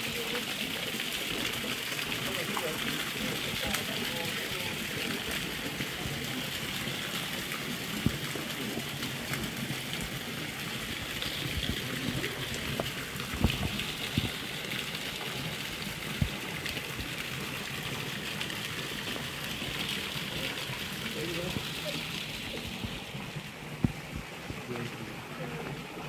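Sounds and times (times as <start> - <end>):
splashing running water: 0.0 - 26.0.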